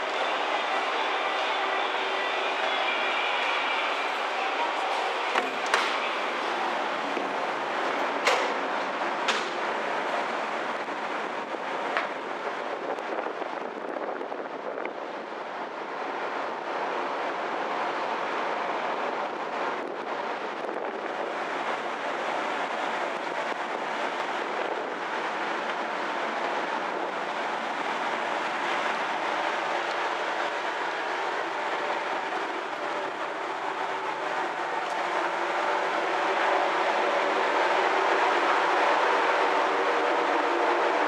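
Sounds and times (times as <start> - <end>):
ship engine rumble: 0.0 - 41.0
wind: 0.0 - 41.0.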